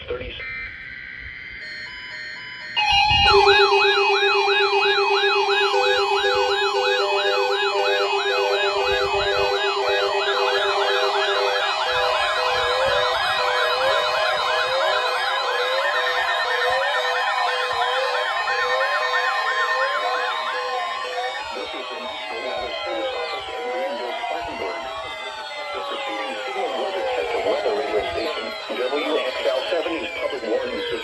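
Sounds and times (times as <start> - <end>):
pulsing beep: 0.0 - 31.0
steady alarm tones: 0.3 - 31.0
warbling siren tones: 0.4 - 31.0.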